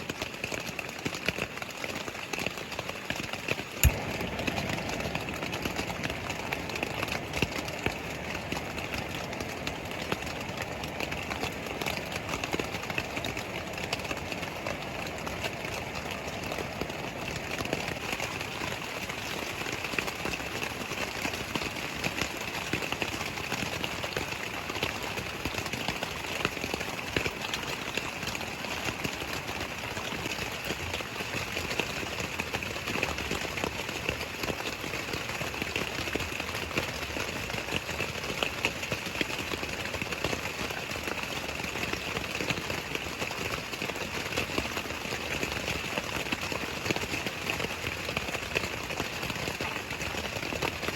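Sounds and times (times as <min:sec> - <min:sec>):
rain drops ticking: 0:00.0 - 0:50.9
mountain stream rushing: 0:02.3 - 0:50.9.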